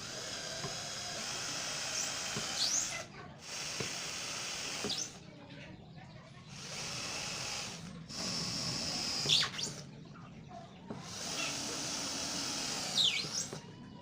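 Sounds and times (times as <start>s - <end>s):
power tool motor running: 0.0s - 5.2s, 6.4s - 9.8s, 10.9s - 13.6s.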